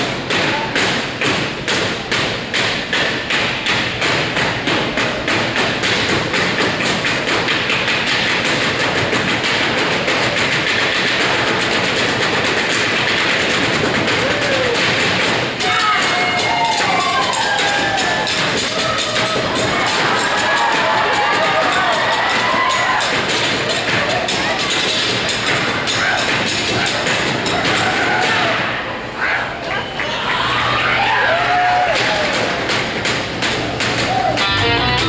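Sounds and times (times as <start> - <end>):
drummers drumming in unison: 0.0 - 28.6.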